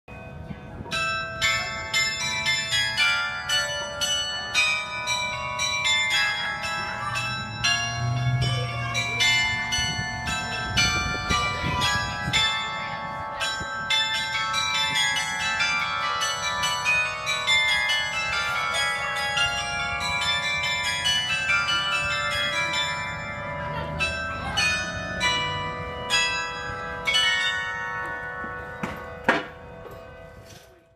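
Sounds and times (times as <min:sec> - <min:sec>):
bells playing a carol: 0:00.1 - 0:30.9.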